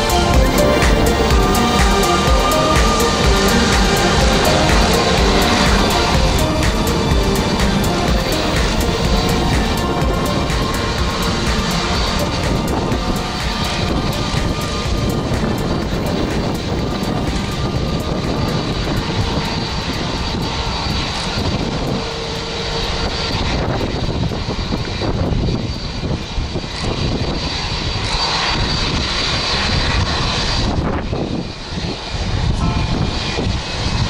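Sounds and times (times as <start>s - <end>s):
jet engine high whine: 0.0s - 34.0s
jet engines rumbling: 0.0s - 34.0s.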